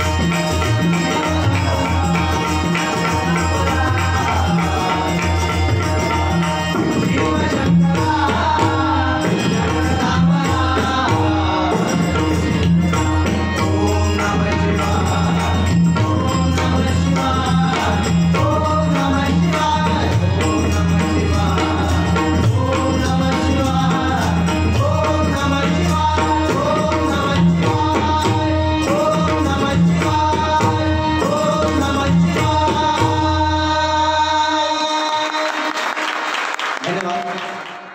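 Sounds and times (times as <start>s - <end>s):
hand drums: 0.0s - 34.2s
man singing devotional song: 0.0s - 37.9s.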